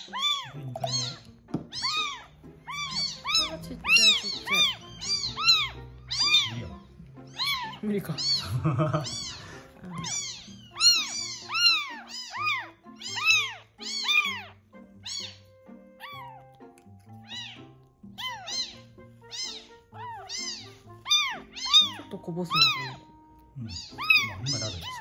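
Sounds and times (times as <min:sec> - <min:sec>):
kitten crying loudly: 0:00.0 - 0:25.0.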